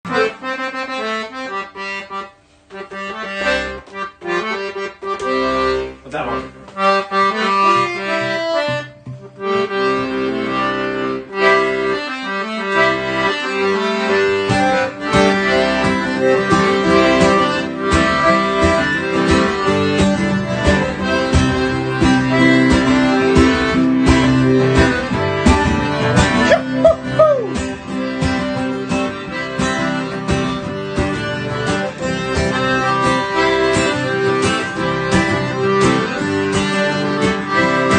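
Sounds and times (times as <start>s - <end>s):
accordion playing a tune: 0.1s - 37.9s
guitar accompaniment: 0.1s - 37.9s.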